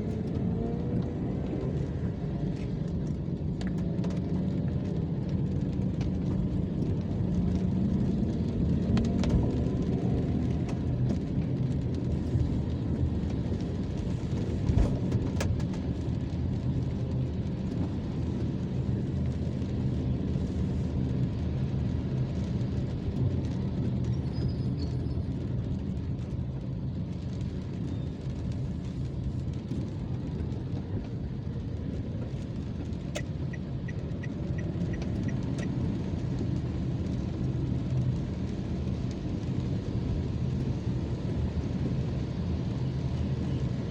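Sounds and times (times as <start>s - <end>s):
engine hum: 0.0s - 43.9s
rain: 0.0s - 43.9s
vehicles on a wet road: 0.0s - 43.9s.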